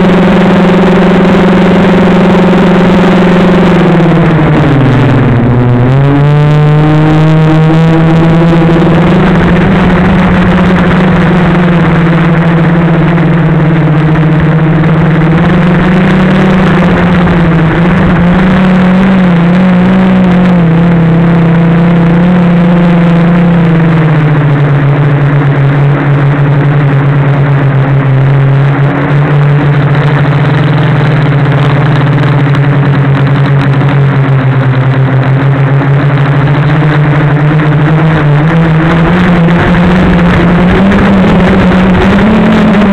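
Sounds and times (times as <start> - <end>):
drone motors and propellers: 0.0 - 42.9.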